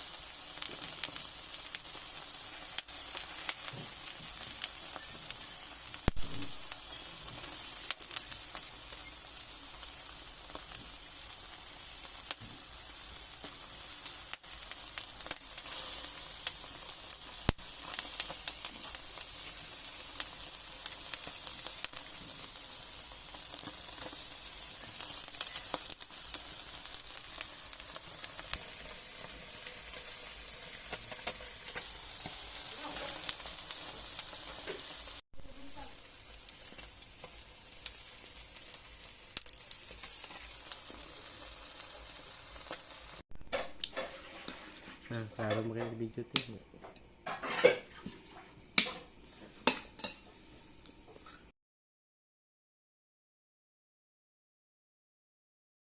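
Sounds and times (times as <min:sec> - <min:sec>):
fish sizzling on a grill: 0:00.0 - 0:51.5.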